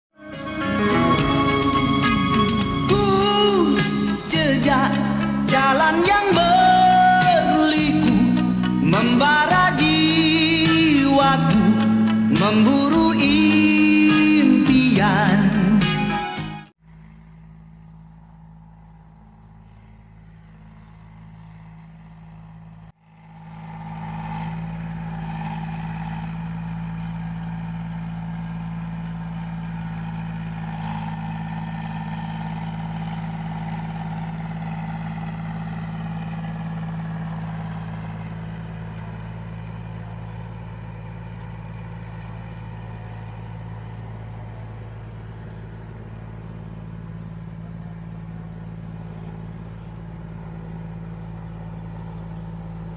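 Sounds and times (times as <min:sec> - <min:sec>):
harvester engine running: 0:00.1 - 0:52.9.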